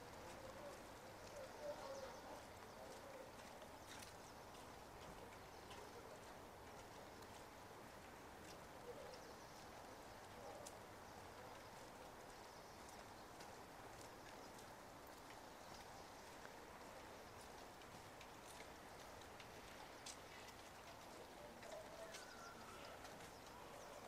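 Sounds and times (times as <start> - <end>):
light rain on wet street: 0.0 - 24.0.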